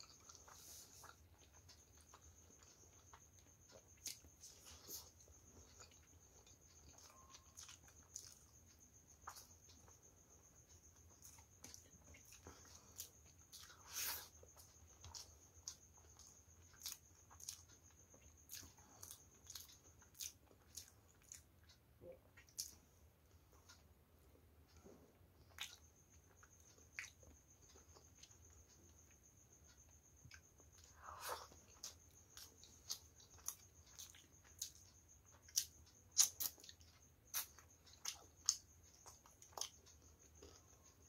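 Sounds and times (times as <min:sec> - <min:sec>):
wet chewing with mouth clicks: 0:00.0 - 0:22.9, 0:24.7 - 0:41.0
faint high-pitched whine: 0:00.0 - 0:41.0.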